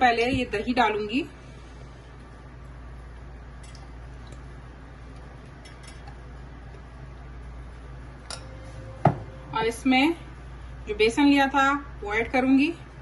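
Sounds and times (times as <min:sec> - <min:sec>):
low hum: 0:00.4 - 0:13.0.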